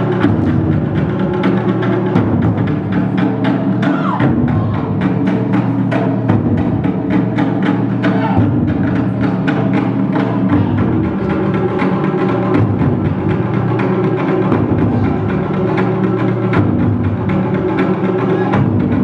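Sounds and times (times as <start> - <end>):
loud dance music with deep drums: 0.0 - 19.0.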